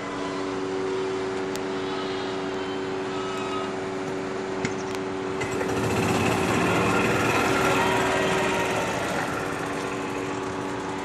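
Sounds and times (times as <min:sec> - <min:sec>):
rough engine-like noise: 0:00.0 - 0:11.0
ventilation fan humming: 0:00.0 - 0:11.0.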